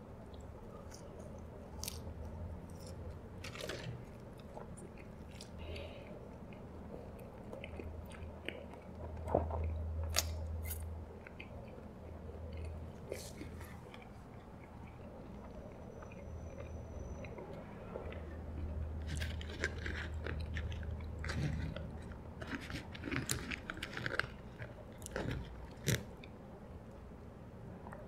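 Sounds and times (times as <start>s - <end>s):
chewing french fries: 0.0s - 28.0s.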